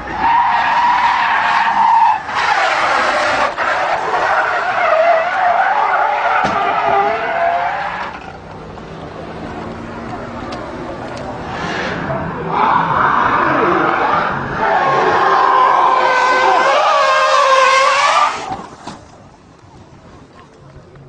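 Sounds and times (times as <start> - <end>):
car tyres squealing: 0.0 - 8.6, 9.4 - 19.0.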